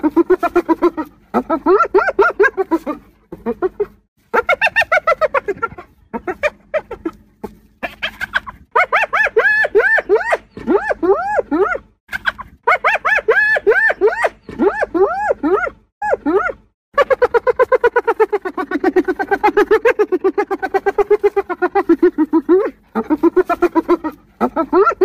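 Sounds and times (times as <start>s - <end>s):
hyenas giggling: 0.0s - 25.0s.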